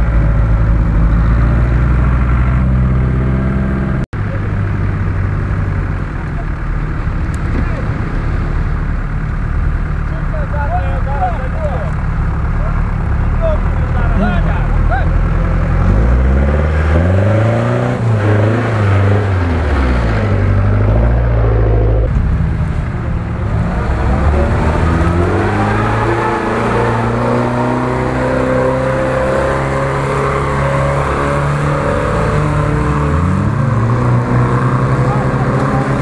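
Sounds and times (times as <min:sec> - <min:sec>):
off-road vehicle engine revving: 0:00.0 - 0:36.0.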